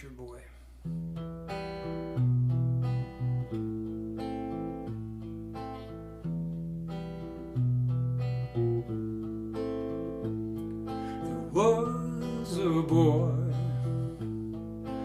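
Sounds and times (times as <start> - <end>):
solo guitar chords: 0.8 - 15.0.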